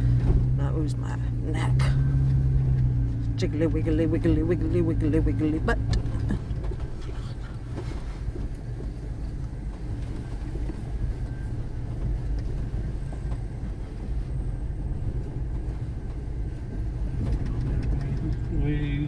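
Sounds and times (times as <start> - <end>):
vehicle rumbling on dirt road: 0.0 - 19.0.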